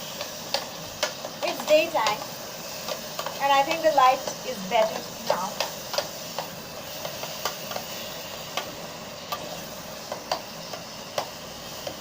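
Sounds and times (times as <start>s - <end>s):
sauce sizzling: 0.0s - 12.0s.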